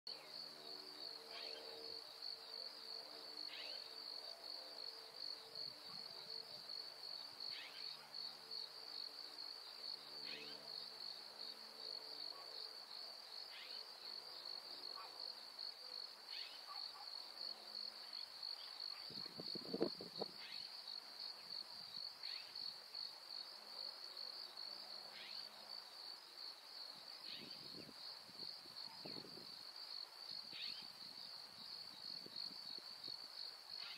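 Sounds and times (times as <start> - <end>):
insects trilling: 0.3 - 23.5, 24.3 - 33.9.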